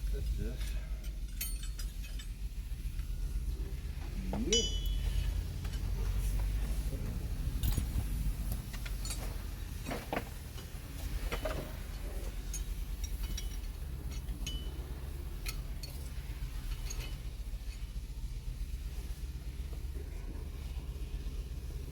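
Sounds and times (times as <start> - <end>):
low rumble: 0.0 - 21.9
metal tools clinking: 0.1 - 18.0.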